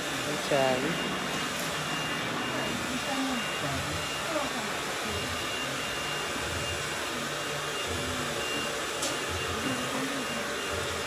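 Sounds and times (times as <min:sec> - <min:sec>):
rushing machine noise: 0:00.0 - 0:11.0
thin high whine: 0:00.5 - 0:10.4.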